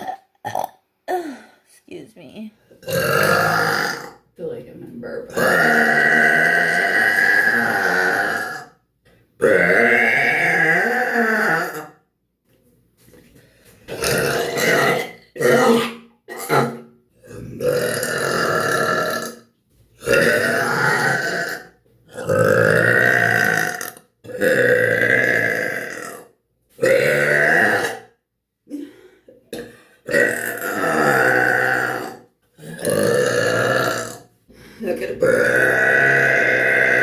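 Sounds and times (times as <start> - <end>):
woman burping: 0.0 - 1.6, 2.7 - 4.2, 5.3 - 8.7, 13.9 - 37.0.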